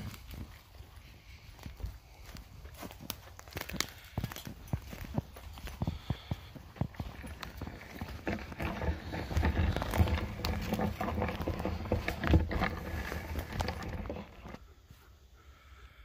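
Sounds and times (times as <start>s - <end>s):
footsteps crunching dry leaves: 0.0s - 14.6s.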